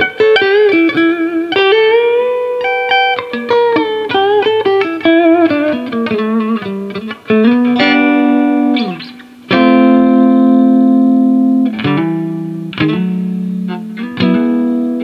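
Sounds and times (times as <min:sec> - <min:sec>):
electric guitar through tube amp: 0:00.0 - 0:15.0.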